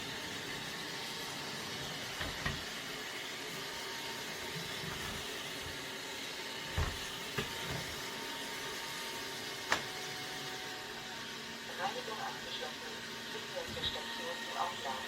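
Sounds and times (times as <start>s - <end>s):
robot vacuum whirring: 0.0s - 15.0s.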